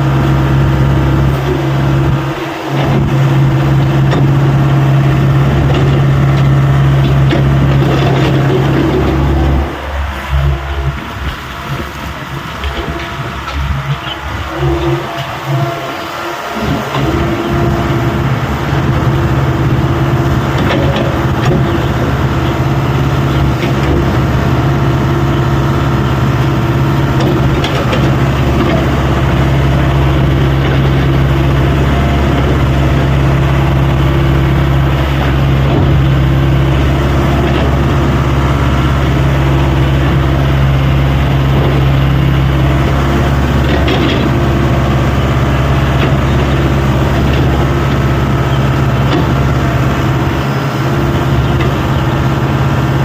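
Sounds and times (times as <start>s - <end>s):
excavator engine running: 0.0s - 53.0s.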